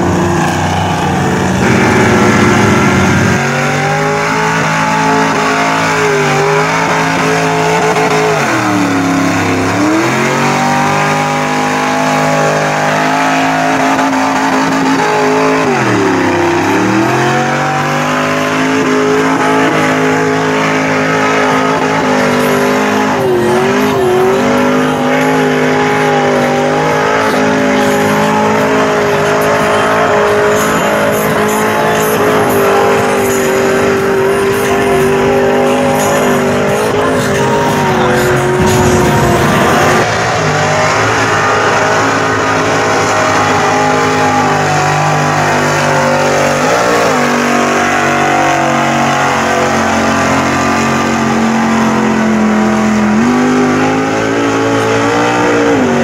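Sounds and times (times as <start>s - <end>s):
truck engine revving in mud: 0.0s - 56.0s.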